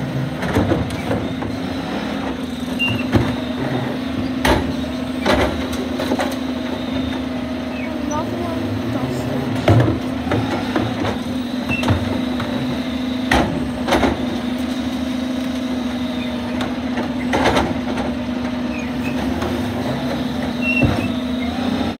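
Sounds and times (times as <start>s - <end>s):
hydraulic whine: 0.0s - 22.0s
truck engine running: 0.0s - 22.0s.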